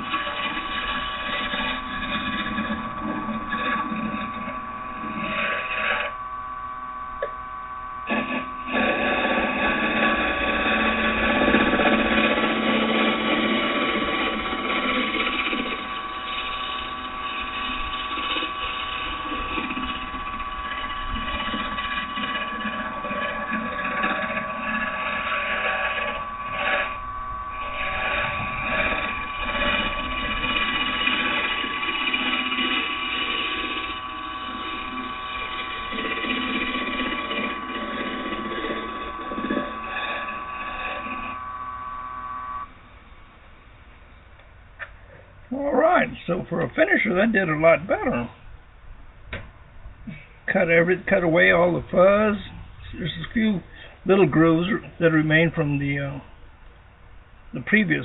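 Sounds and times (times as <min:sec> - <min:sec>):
tool scraping spinning wood: 0:00.0 - 0:43.2, 0:50.1 - 0:56.3
lathe motor whine: 0:00.0 - 0:48.8.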